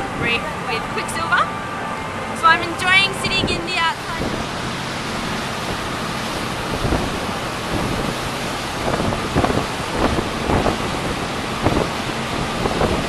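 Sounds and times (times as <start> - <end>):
boat wake churning: 0.0 - 13.0
wind buffeting microphone: 0.0 - 13.0.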